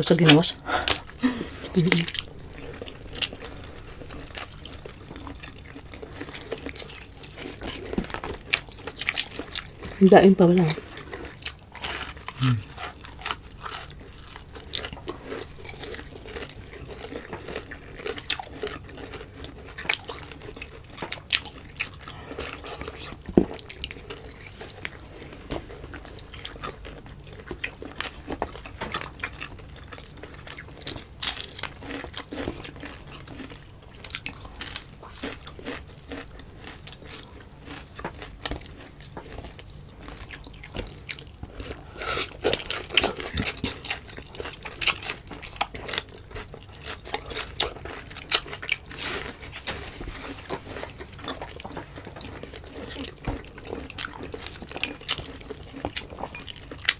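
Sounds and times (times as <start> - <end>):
person chewing: 0.0 - 10.0, 10.7 - 49.5, 50.2 - 56.9.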